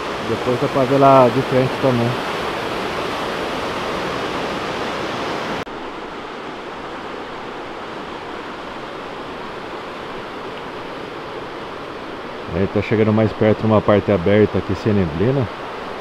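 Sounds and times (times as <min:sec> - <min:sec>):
duller river rush: 0:00.0 - 0:16.0
waterfall rushing: 0:00.0 - 0:16.0.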